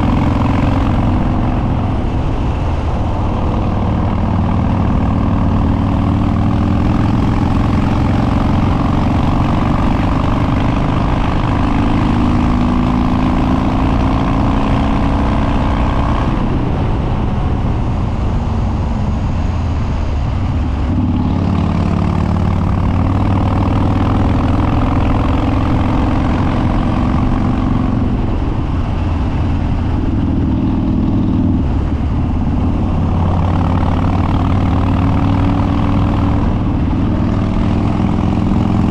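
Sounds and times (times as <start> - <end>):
loud motorcycle engine riding: 0.0 - 38.9.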